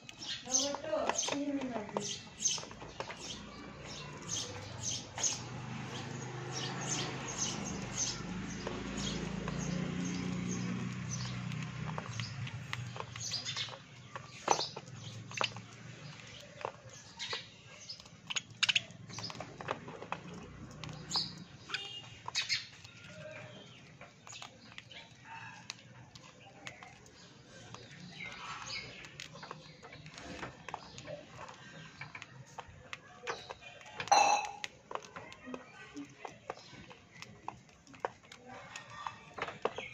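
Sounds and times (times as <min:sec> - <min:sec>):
birds cracking a biscuit: 0:00.0 - 0:39.9.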